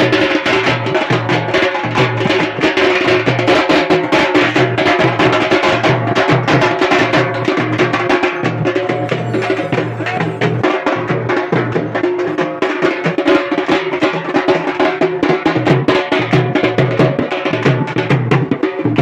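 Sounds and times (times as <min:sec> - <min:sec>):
percussion-heavy music: 0:00.0 - 0:19.0.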